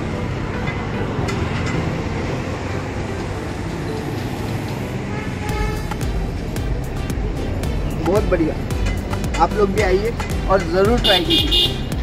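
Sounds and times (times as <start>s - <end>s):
street traffic: 0.0s - 12.0s
vehicle engine rumble: 0.0s - 12.0s.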